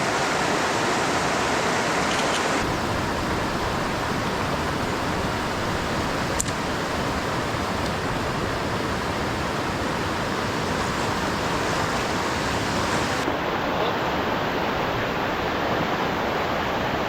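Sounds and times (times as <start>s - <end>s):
fast-flowing water rushing: 0.0s - 17.0s.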